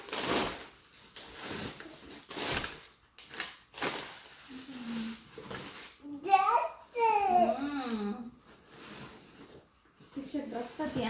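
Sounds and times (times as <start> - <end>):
plastic bags and paper rustling: 0.0 - 11.0.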